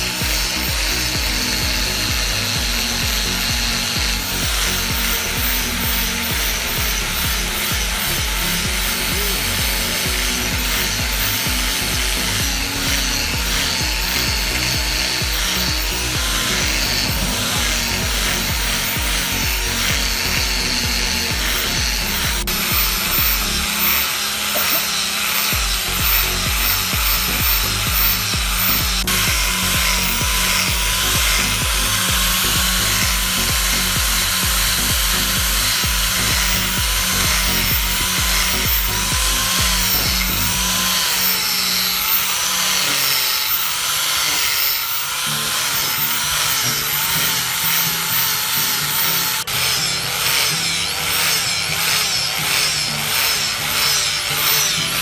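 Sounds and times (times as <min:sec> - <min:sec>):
angle grinder grinding steel: 0:00.0 - 0:55.0
background music: 0:00.0 - 0:55.0.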